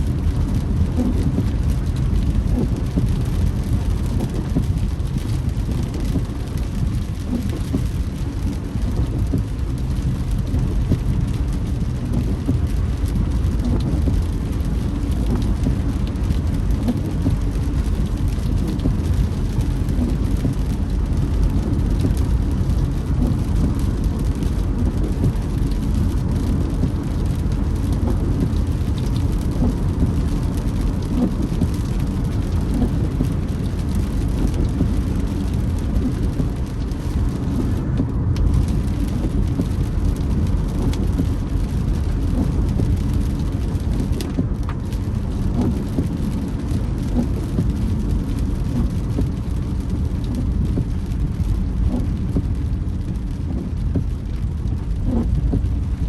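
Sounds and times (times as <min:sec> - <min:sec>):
car road and engine rumble: 0:00.0 - 0:56.0
rain on car: 0:00.0 - 0:56.0.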